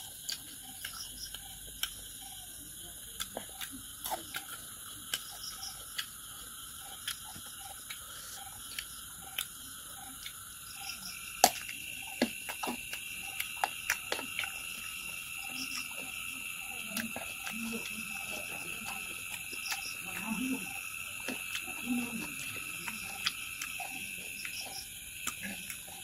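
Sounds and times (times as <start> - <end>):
chewing smacks and clicks: 0.0 - 26.0
steady high-pitched hum: 0.0 - 26.0
fingers picking at food: 0.1 - 26.0.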